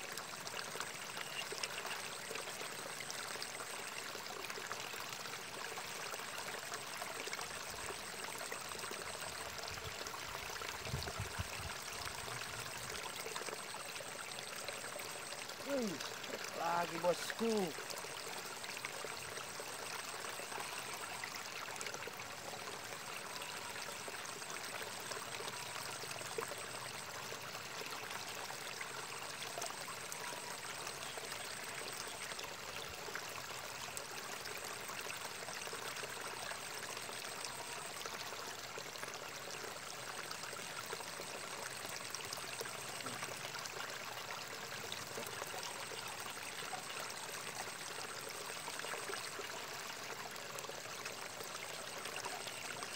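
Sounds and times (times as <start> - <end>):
running water trickling: 0.0 - 52.9.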